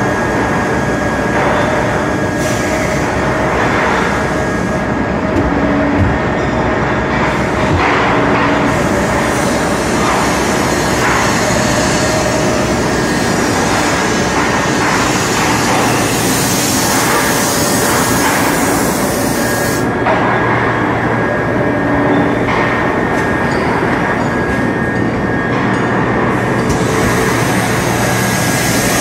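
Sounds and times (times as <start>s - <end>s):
factory machinery din: 0.0s - 29.0s.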